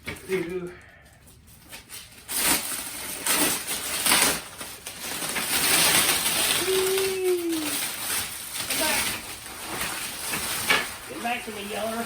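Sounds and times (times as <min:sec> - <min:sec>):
plastic and cardboard rustling: 0:00.0 - 0:12.0.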